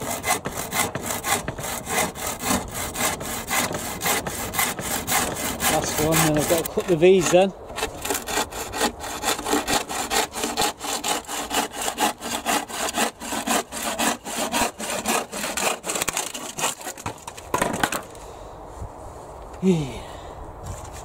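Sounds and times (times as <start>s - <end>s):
hand saw cutting wood: 0.0s - 18.0s.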